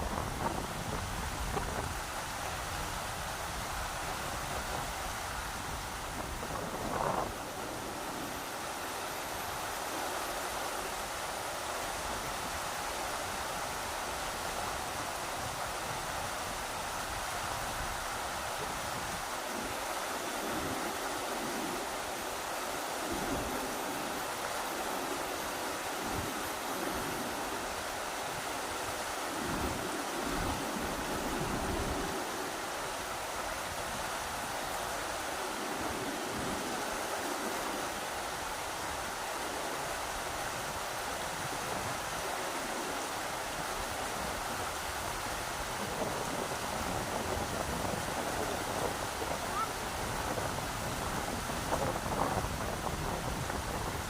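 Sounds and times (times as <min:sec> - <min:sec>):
rushing river water: 0:00.0 - 0:54.0
wind rumbling on microphone: 0:00.0 - 0:54.0.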